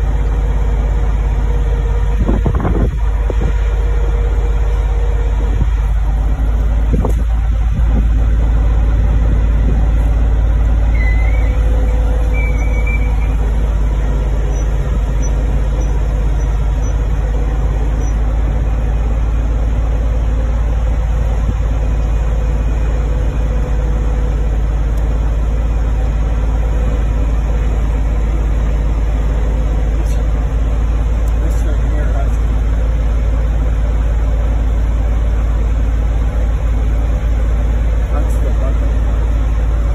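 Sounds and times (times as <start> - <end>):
truck engine and hydraulics: 0.0 - 39.9.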